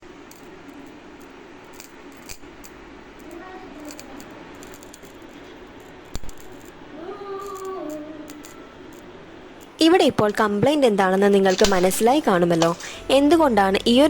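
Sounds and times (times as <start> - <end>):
electrical arcing crackling: 0.0 - 14.0.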